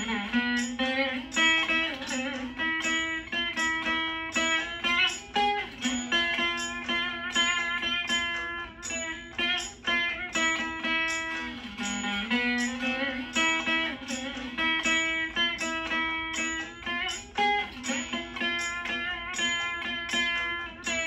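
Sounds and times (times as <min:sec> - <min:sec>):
veena plucked notes: 0:00.0 - 0:21.0.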